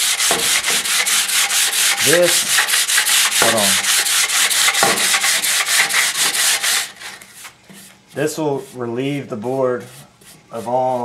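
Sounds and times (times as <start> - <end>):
sandpaper rasping on wood: 0.0 - 9.2, 9.8 - 11.0.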